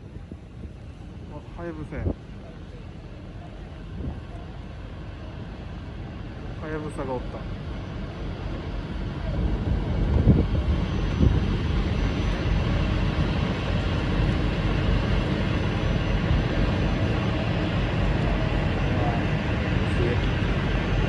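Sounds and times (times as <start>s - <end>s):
boat engine rumble: 0.0s - 21.0s.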